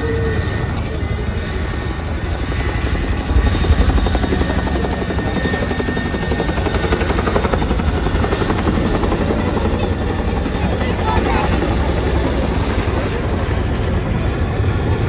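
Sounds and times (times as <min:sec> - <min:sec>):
helicopter rotors chopping: 0:00.0 - 0:15.0.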